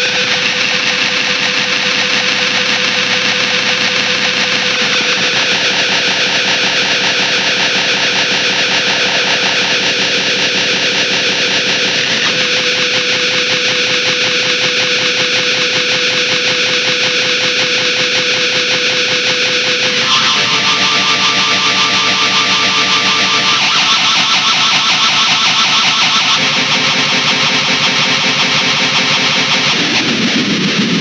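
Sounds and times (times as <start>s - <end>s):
distorted guitar drone: 0.0s - 31.0s.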